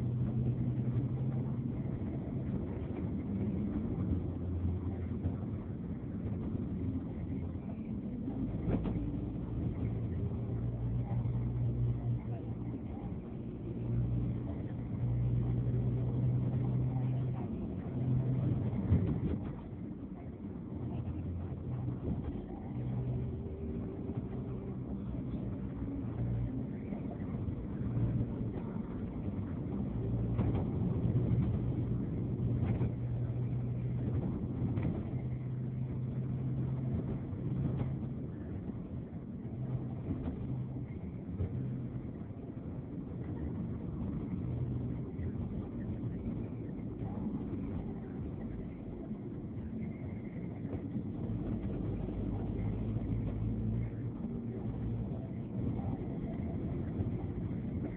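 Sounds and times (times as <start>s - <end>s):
vehicle engine hum and road noise: 0.0s - 57.9s.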